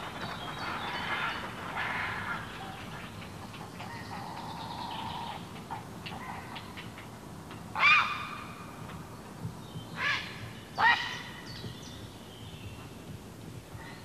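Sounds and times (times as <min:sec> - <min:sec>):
small birds chirping and ticking: 0:00.0 - 0:07.7, 0:08.8 - 0:14.0.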